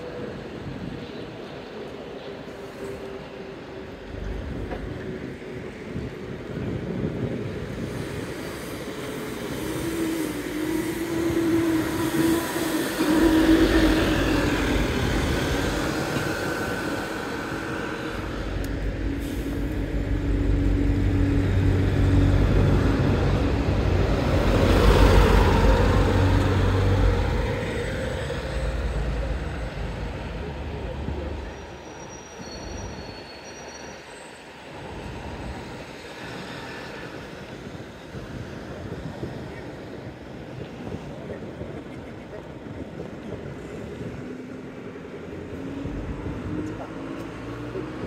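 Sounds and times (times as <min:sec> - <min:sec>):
tram running on rails: 0:00.0 - 0:48.0.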